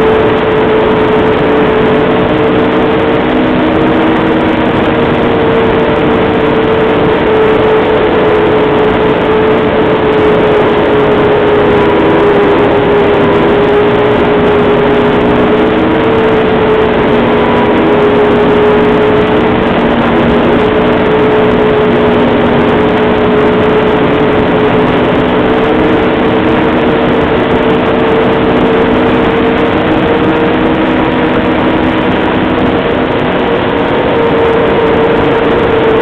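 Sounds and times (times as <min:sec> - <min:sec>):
snowmobile engine droning: 0:00.0 - 0:36.0.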